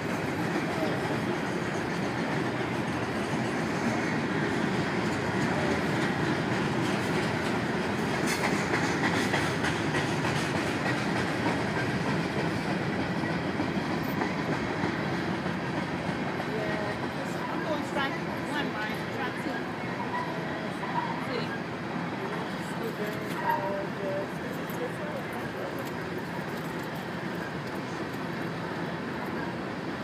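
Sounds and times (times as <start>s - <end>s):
freight train rolling past: 0.0s - 30.0s.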